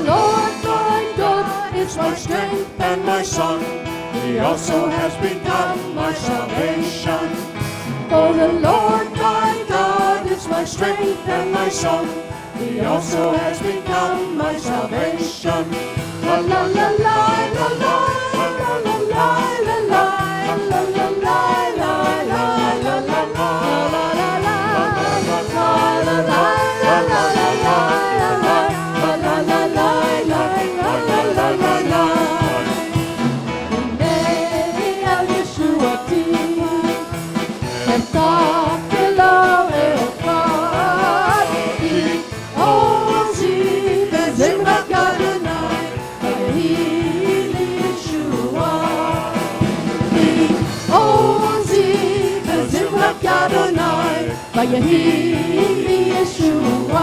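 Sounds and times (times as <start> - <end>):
instrumental accompaniment: 0.0 - 57.0
voices singing together: 0.0 - 57.0.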